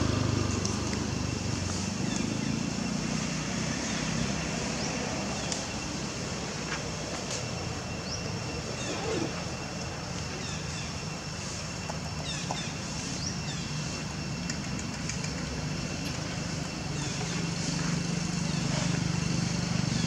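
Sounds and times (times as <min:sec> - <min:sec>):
traffic engine hum: 0:00.0 - 0:20.0.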